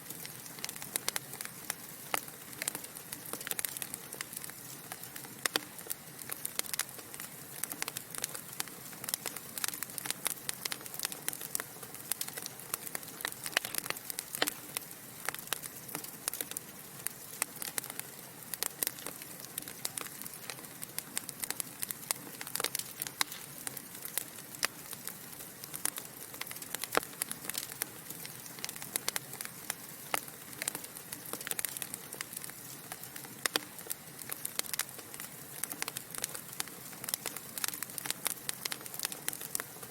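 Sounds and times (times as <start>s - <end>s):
burning logs crackling and popping: 0.0s - 39.9s
fire hissing softly: 0.0s - 39.9s.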